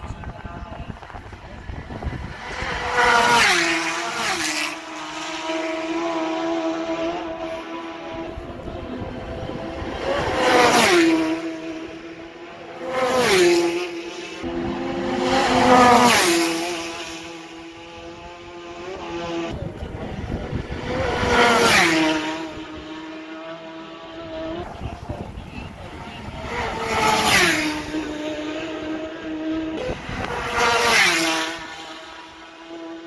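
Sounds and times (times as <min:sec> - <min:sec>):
racing motorbikes passing: 0:00.0 - 0:33.0.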